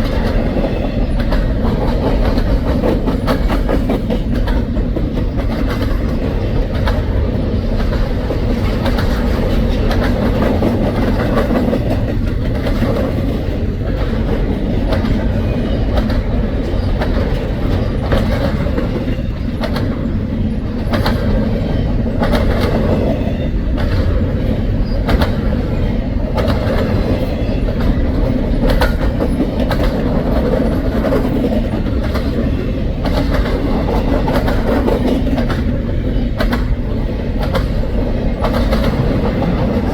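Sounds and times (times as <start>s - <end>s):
steel wheels rumbling on rails: 0.0s - 39.9s
wheels clicking over rail joints: 0.0s - 39.9s.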